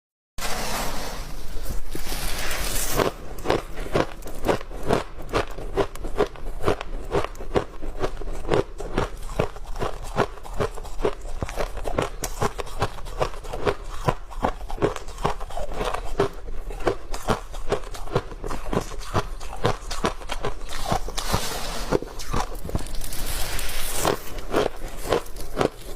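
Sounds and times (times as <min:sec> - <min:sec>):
frost crunching being chewed: 0:01.7 - 0:25.9.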